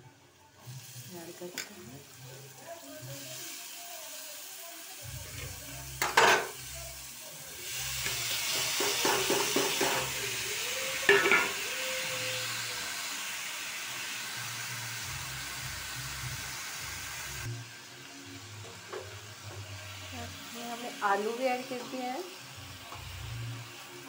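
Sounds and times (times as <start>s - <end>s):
beans sizzling in hot oil: 0.5s - 24.0s.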